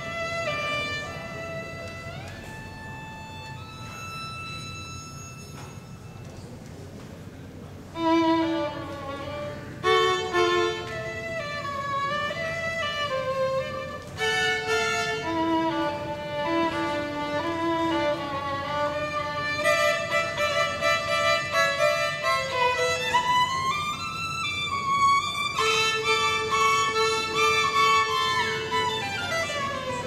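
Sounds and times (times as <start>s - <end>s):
violin melody: 0.0s - 5.8s, 7.8s - 30.0s.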